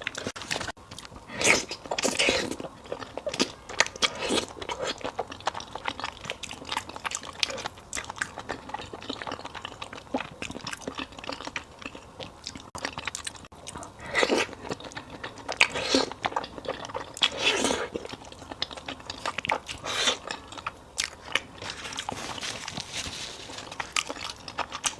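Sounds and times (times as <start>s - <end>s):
person chewing noodles: 0.0s - 24.9s.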